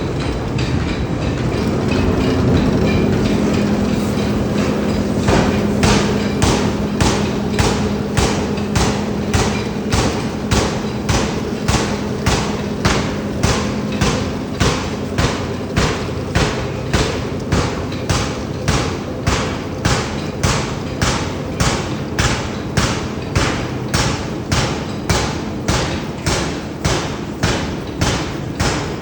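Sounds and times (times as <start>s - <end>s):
faint machine hum: 0.0s - 29.0s
forging hammer striking steel: 0.2s - 29.0s.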